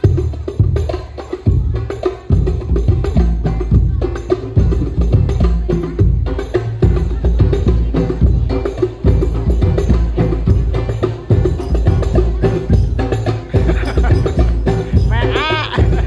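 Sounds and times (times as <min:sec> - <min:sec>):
frame drums beating: 0:00.0 - 0:16.0.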